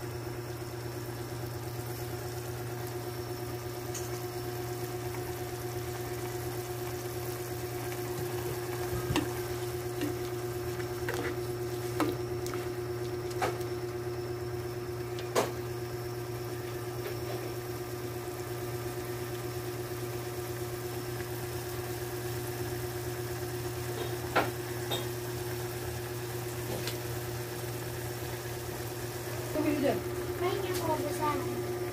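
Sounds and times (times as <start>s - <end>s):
broth simmering: 0.0s - 31.9s.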